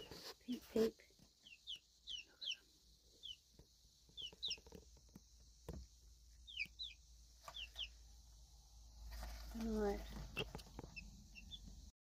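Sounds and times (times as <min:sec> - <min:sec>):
baby chicks peeping: 0:00.0 - 0:11.9.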